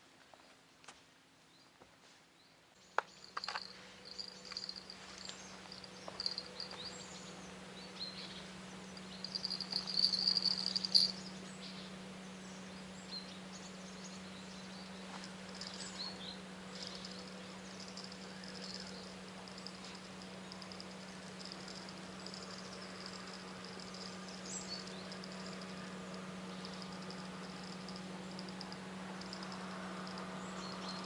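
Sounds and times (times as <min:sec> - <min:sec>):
insects and birds chirping: 0:02.8 - 0:31.0
steady low hum: 0:02.8 - 0:31.0.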